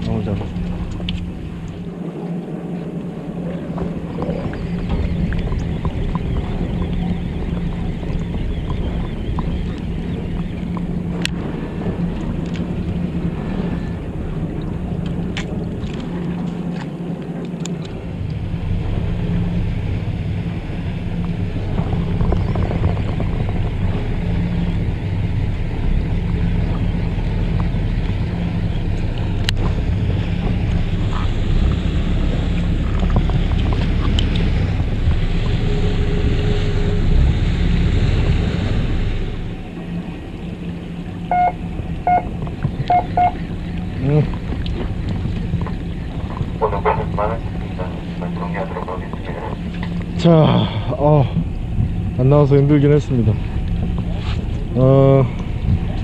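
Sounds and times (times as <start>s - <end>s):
boat engine humming: 0.0s - 56.0s
water noise: 0.0s - 56.0s
wind: 0.0s - 56.0s.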